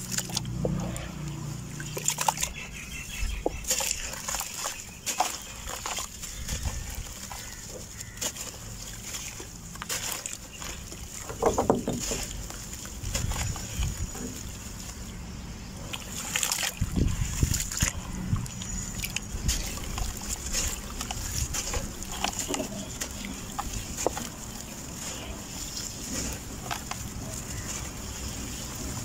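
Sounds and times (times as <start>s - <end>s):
dirt pouring into water: 0.0s - 15.0s, 15.8s - 29.0s
hands sloshing mud in water: 0.0s - 29.0s.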